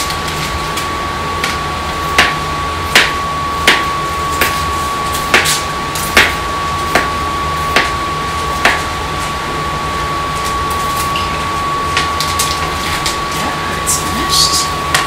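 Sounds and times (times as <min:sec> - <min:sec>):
steady hum with high whine: 0:00.0 - 0:15.0.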